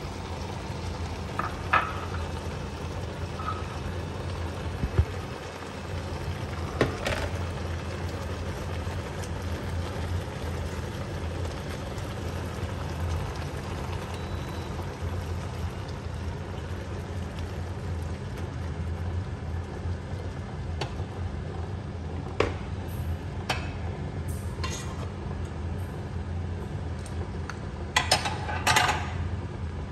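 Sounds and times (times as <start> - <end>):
cooktop low hum: 0.0 - 29.9.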